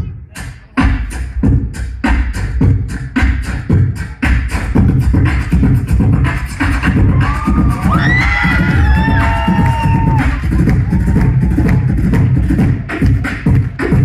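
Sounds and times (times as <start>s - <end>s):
beatboxing into a microphone: 0.0s - 14.0s.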